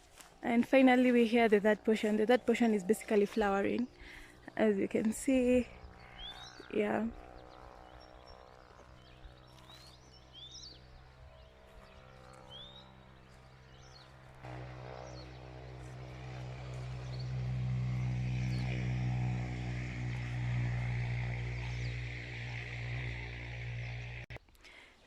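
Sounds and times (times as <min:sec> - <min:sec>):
engine drone: 0:00.1 - 0:24.4.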